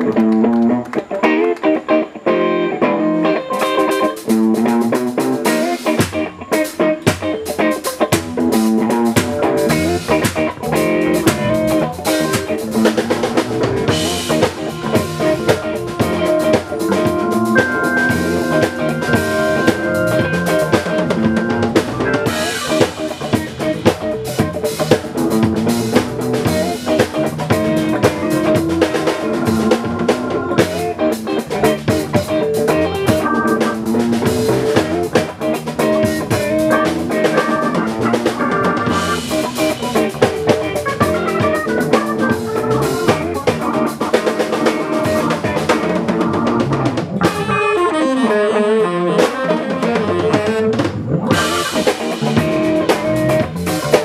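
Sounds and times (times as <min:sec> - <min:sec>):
live band playing: 0:00.0 - 0:54.0
drum kit beat: 0:03.5 - 0:54.0.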